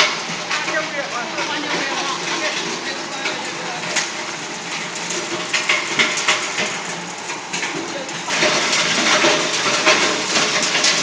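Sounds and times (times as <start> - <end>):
shredder chopping cable: 0.0 - 11.0.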